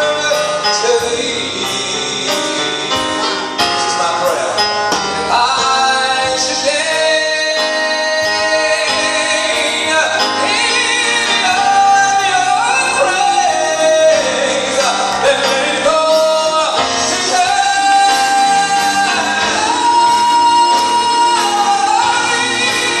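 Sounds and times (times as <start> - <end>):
man singing gospel into microphone: 0.0 - 23.0.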